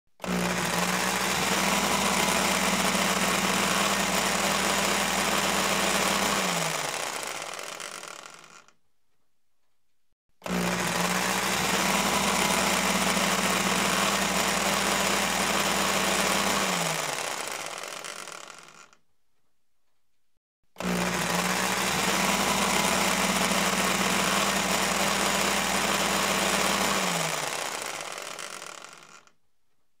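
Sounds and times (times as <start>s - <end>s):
blender motor whirring: 0.2s - 8.7s, 10.4s - 19.0s, 20.8s - 29.4s.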